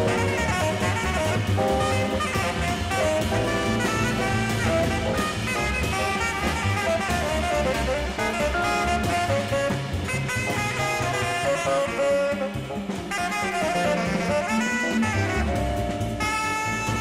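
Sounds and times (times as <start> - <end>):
bass: 0.0 - 17.0
drums: 0.0 - 17.0
electric piano: 0.0 - 17.0
tenor saxophone: 0.0 - 17.0.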